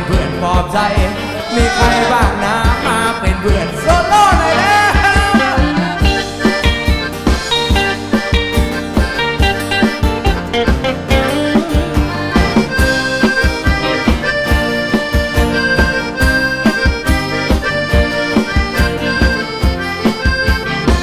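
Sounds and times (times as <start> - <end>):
accordion lead melody: 0.0 - 21.0
bass: 0.0 - 21.0
drum beat: 0.0 - 21.0.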